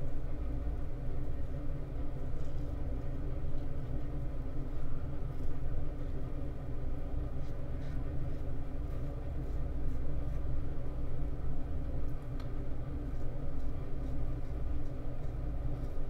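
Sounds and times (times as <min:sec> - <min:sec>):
low rumble and hum: 0:00.0 - 0:16.0.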